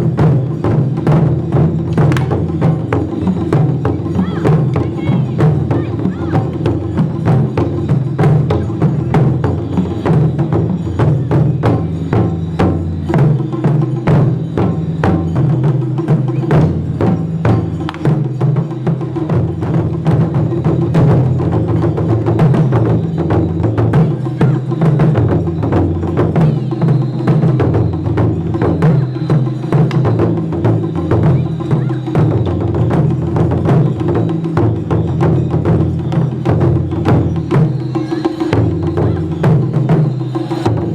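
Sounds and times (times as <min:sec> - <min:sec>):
festival drums and clacking percussion: 0:00.0 - 0:40.9.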